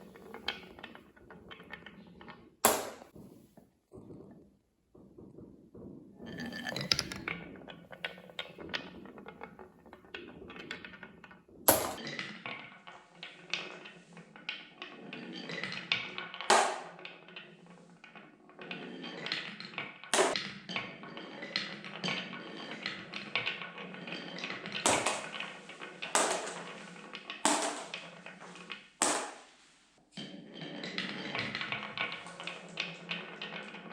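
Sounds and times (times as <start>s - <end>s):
marbles rolling down wooden track: 0.0s - 29.5s, 30.2s - 33.9s.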